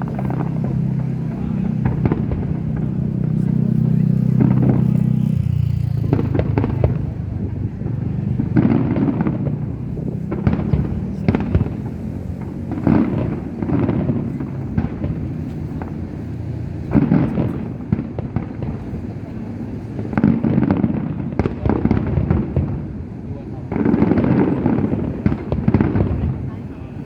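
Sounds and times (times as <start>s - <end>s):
fireworks bangs: 0.0s - 27.0s
low background rumble: 0.0s - 27.0s.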